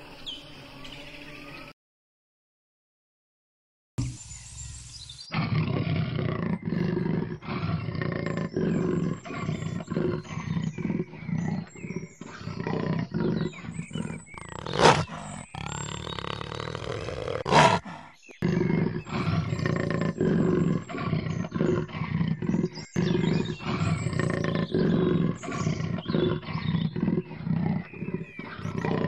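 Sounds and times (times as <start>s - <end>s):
large cat growling: 5.3s - 29.0s
large cat snarling: 5.3s - 29.0s.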